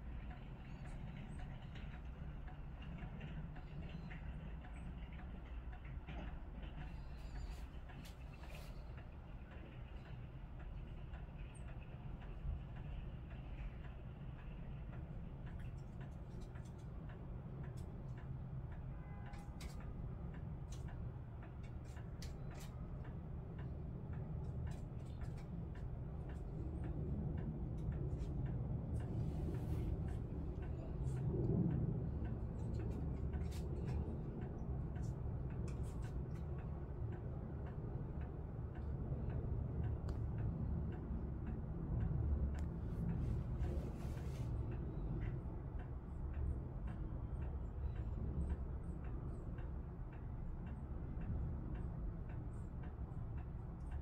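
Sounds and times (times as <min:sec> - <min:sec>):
light clicks and ticks: 0:00.0 - 0:54.0
low background rumble: 0:00.0 - 0:54.0.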